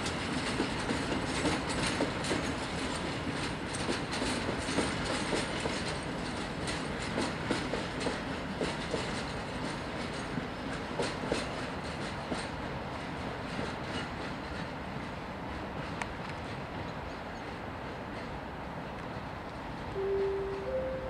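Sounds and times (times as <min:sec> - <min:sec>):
wheels clicking over rail joints: 0:00.0 - 0:18.4
freight train rumbling past: 0:00.0 - 0:21.0.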